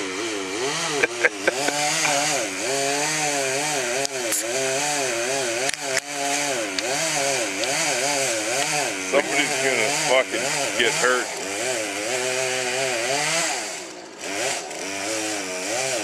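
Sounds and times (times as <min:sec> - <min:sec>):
chainsaw cutting tree trunk: 0:00.0 - 0:16.0.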